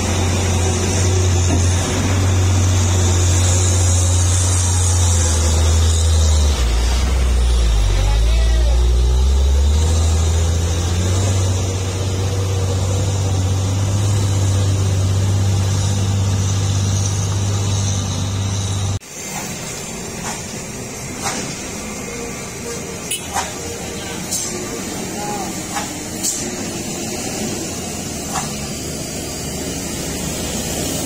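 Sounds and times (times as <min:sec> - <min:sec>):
road traffic: 0:00.0 - 0:31.0
truck diesel engine droning: 0:00.0 - 0:31.0.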